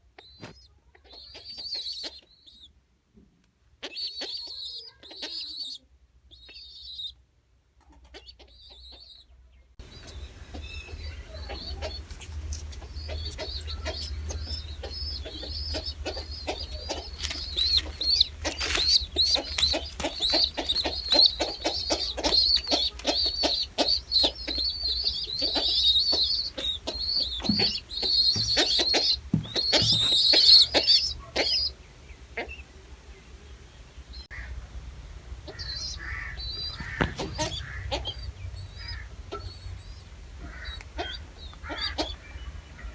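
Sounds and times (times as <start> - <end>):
birds chirping: 0.0 - 2.8, 3.8 - 7.2, 7.8 - 42.9.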